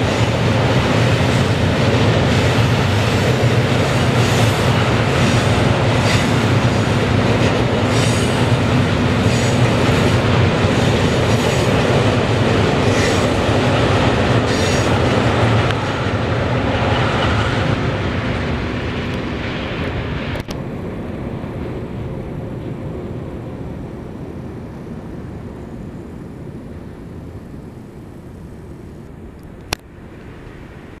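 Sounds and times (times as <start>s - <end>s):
diesel locomotives droning: 0.0s - 31.0s.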